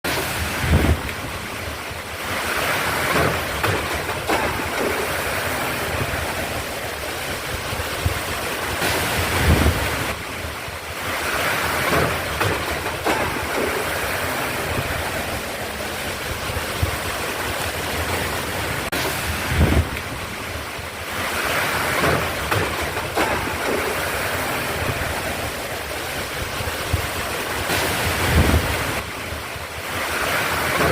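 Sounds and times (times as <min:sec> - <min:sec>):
heavy rain pouring: 0:00.0 - 0:30.9
wind buffeting microphone: 0:00.4 - 0:02.0, 0:03.1 - 0:21.5, 0:22.4 - 0:29.5.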